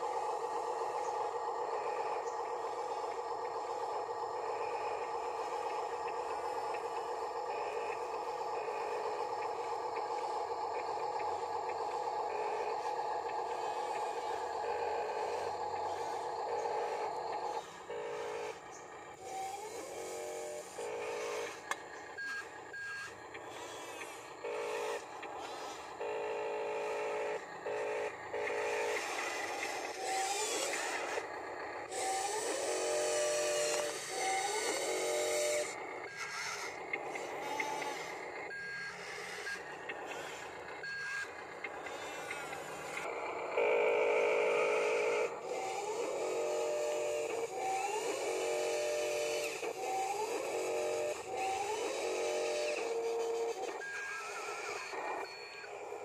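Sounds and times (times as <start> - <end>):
small electric motors whining: 0.0 - 56.0.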